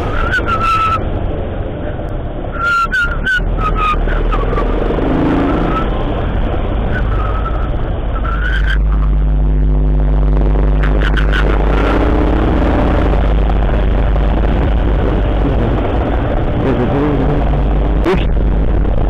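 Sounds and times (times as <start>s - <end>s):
vehicle engine running: 0.0s - 19.0s
wind noise: 0.0s - 19.0s.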